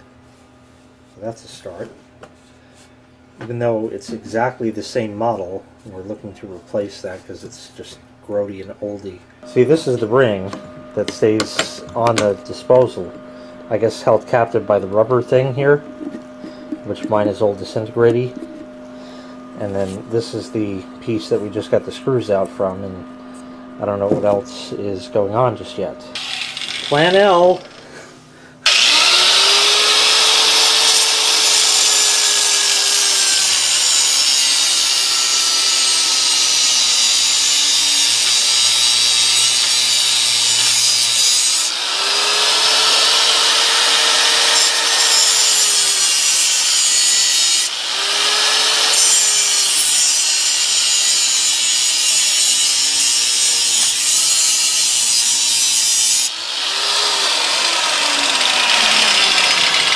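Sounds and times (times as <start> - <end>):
angle grinder cutting metal: 9.4 - 59.9.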